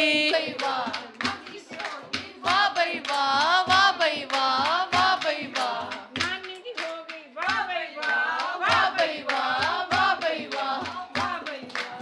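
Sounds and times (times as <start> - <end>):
hand drum beat: 0.0 - 7.8, 8.5 - 12.0
hand-clapping: 0.0 - 12.0
women singing folk song: 0.0 - 12.0.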